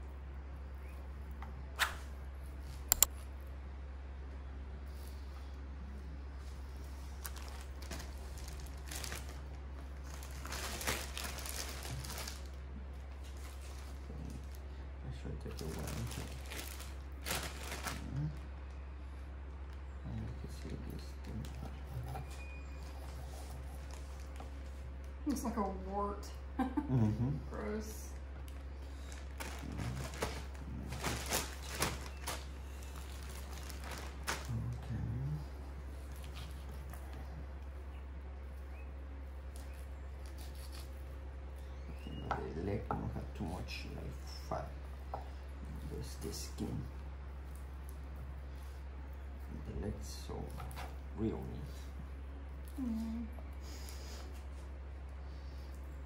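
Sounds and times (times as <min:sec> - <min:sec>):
steady low hum: 0:00.0 - 0:56.0
raw chicken crinkling and crunching: 0:04.9 - 0:25.2, 0:28.2 - 0:56.0.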